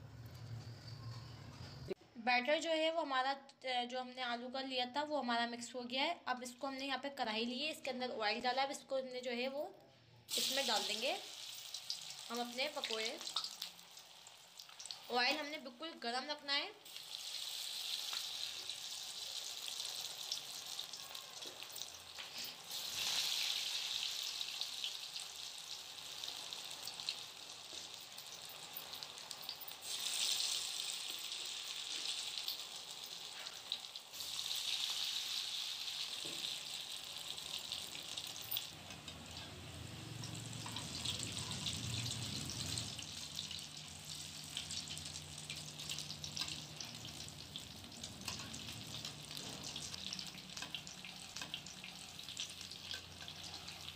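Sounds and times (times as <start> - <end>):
batter sizzling in hot oil: 10.3 - 53.9.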